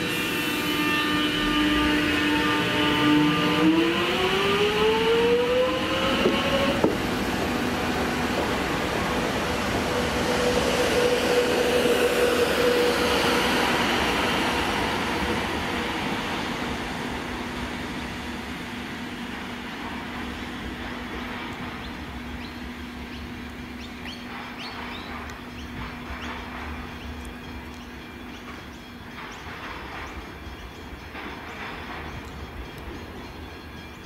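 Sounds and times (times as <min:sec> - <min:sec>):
electric train moving away: 0:00.0 - 0:34.0
train whine: 0:00.0 - 0:34.0.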